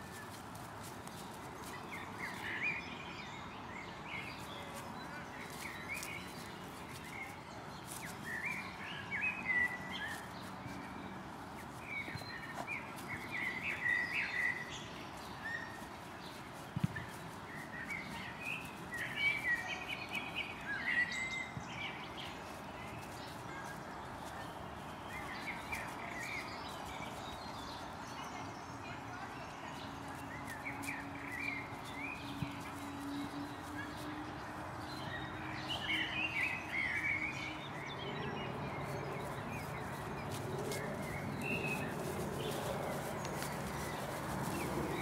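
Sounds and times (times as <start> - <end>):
small birds chirping: 0.0 - 45.0
steady outdoor hiss: 0.0 - 45.0.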